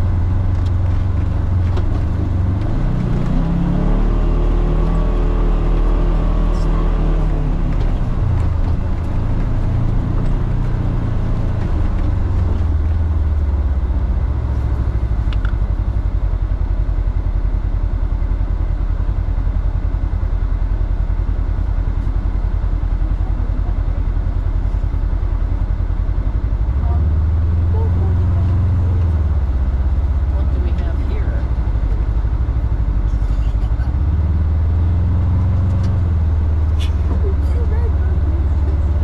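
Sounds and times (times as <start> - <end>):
vehicle engine low drone: 0.0 - 39.0.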